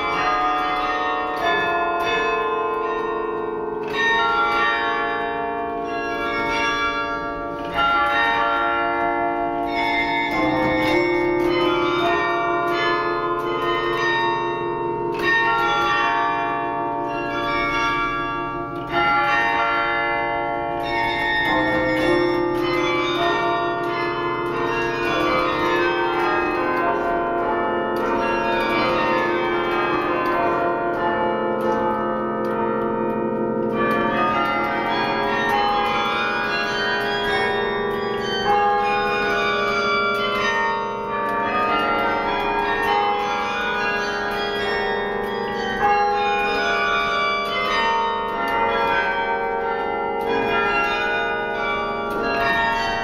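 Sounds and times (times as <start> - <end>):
carillon bells playing: 0.0 - 53.0
low bells humming: 0.0 - 53.0.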